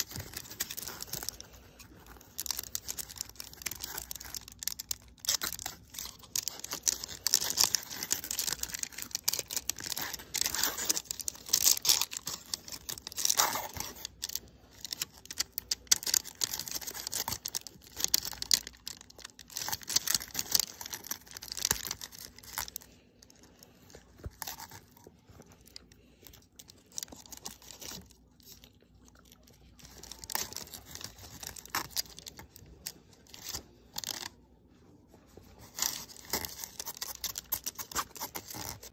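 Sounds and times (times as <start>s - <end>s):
foil wrapper crinkling and tearing: 0.0s - 34.5s, 35.4s - 38.9s.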